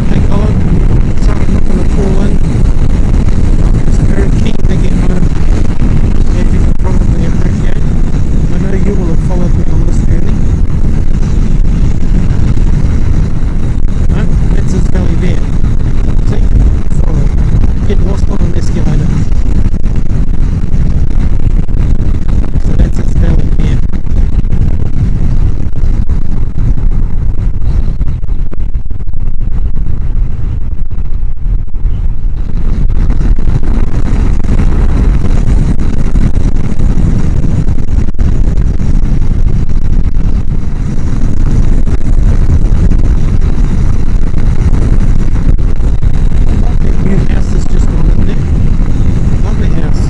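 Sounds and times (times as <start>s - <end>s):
engine and road noise: 0.0s - 50.0s
wind buffeting helmet microphone: 0.0s - 50.0s.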